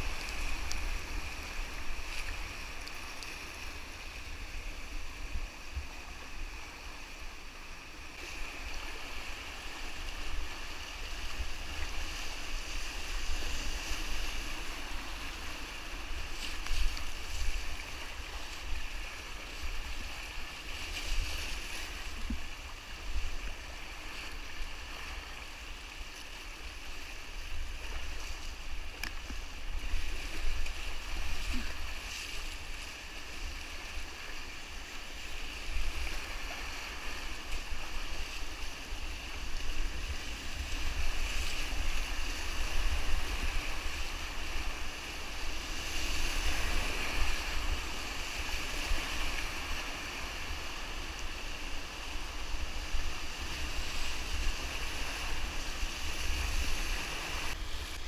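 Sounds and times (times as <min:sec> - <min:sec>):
rushing whitewater river: 0:00.0 - 0:58.0
wind rumble on microphone: 0:00.0 - 0:58.0.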